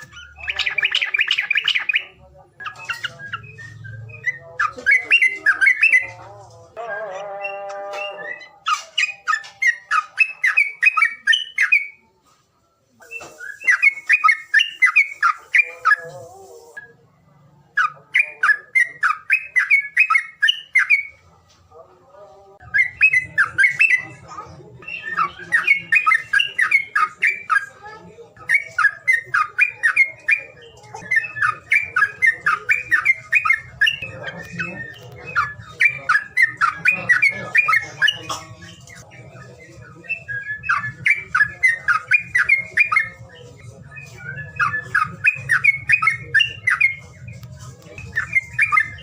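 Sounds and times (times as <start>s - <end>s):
songbird singing: 0.0s - 49.0s.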